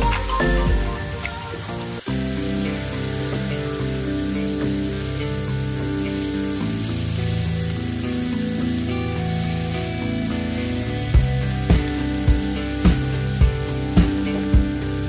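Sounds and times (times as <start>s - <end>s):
background music: 0.0s - 15.0s
vegetables sizzling in oil: 0.0s - 15.0s.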